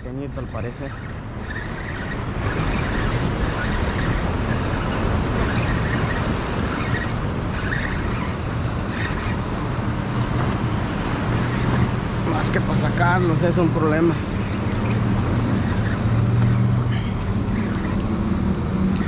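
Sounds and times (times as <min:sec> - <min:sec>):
motorboat engine drone: 0:00.0 - 0:19.0.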